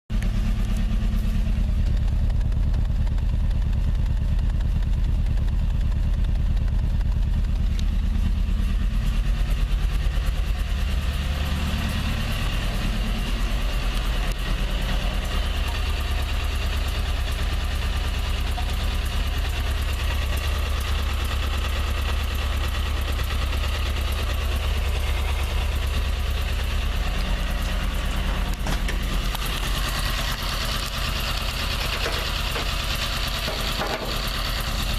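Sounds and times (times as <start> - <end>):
car engine idling: 0.1 - 34.9
exhaust ticking: 0.1 - 34.9.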